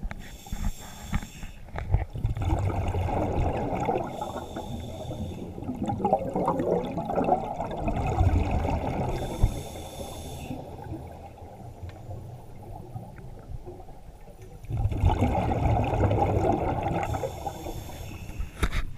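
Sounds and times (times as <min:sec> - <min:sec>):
underwater bubbling exhalation: 0:02.1 - 0:14.0, 0:14.6 - 0:18.0.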